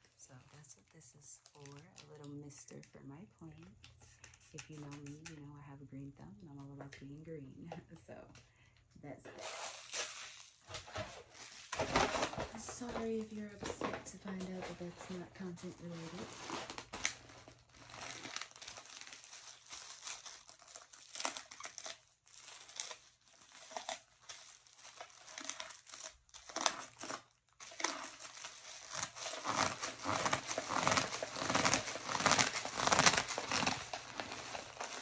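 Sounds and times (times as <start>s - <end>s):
plastic crinkling: 0.0s - 3.6s, 9.3s - 35.0s.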